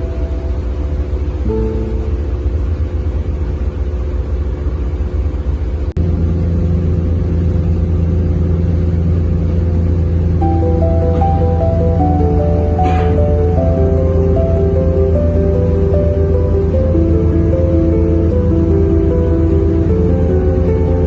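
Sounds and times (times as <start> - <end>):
boat engine rumble: 0.0 - 21.0.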